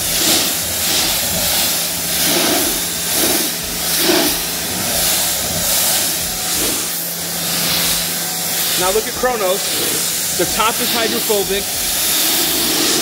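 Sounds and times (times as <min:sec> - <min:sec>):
low hum: 0:00.0 - 0:13.0
pressure washer spray hissing: 0:00.0 - 0:13.0.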